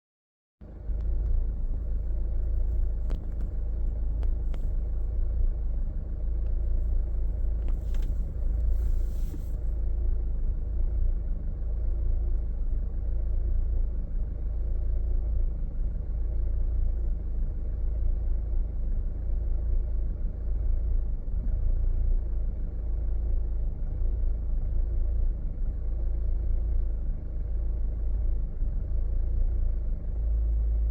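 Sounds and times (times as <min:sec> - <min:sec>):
car engine idling roughly: 0:00.6 - 0:30.9.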